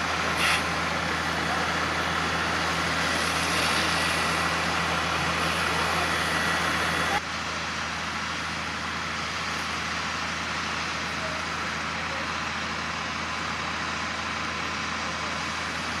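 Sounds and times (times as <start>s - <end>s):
fire engine humming: 0.0s - 16.0s.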